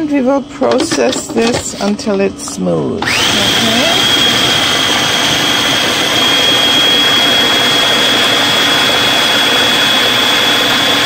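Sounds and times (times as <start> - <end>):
food processor motor whining: 0.6 - 11.0.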